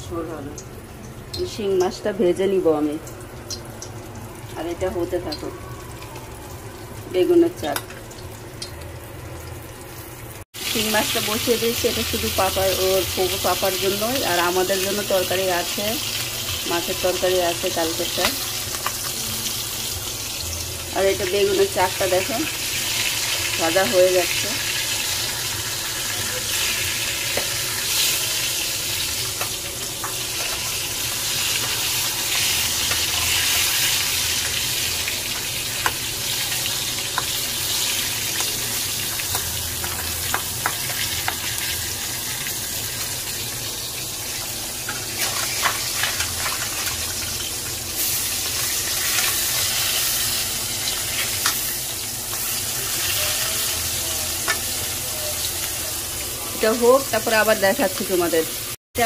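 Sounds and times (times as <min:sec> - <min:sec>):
food frying in oil: 0:00.0 - 0:59.0.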